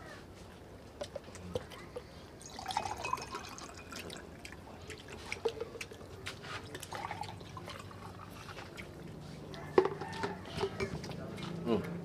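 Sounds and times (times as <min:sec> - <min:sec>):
people chewing and eating: 0:00.0 - 0:12.0.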